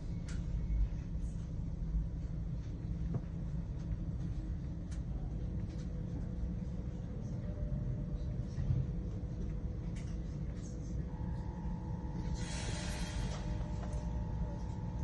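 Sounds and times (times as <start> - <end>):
faint steady hum: 0.0 - 15.0
train car rumble: 0.0 - 15.0.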